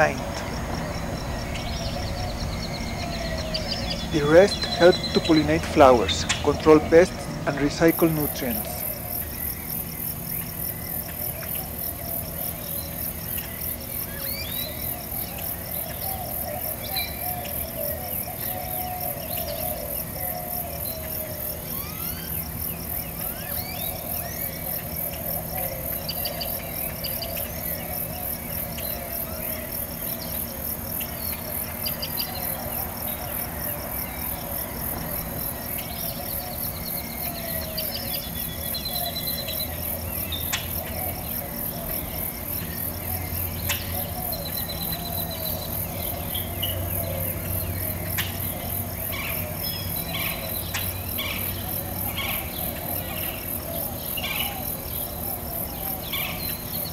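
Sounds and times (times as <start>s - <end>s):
insects chirping high-pitched: 0.0s - 56.9s.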